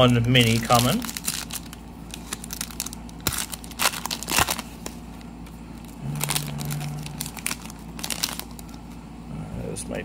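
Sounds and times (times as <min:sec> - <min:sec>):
foil wrappers crinkling: 0:00.0 - 0:09.0.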